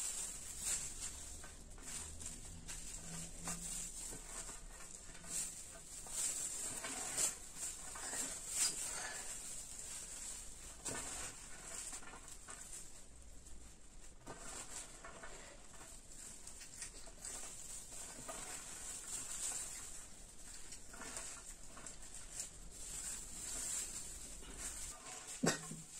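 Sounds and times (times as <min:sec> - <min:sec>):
shredded vegetables rustling: 0:00.0 - 0:25.9.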